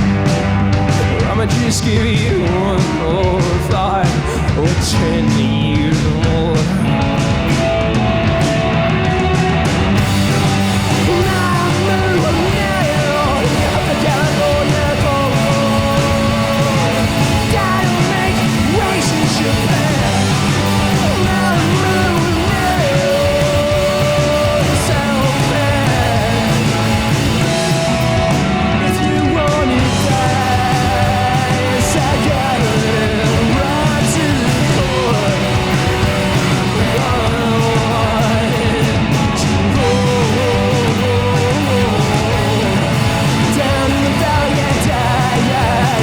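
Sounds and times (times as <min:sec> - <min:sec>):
rock band playing live: 0:00.0 - 0:46.0.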